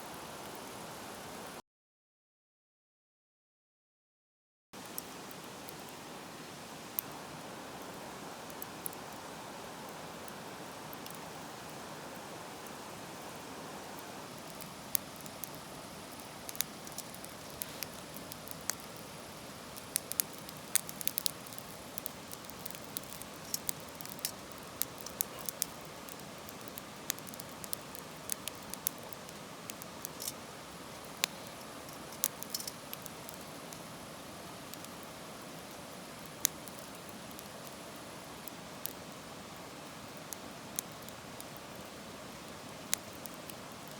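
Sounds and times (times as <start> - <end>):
fire hiss: 0.0 - 1.6, 4.8 - 43.9
wood fire crackling: 0.0 - 1.6, 4.8 - 43.9.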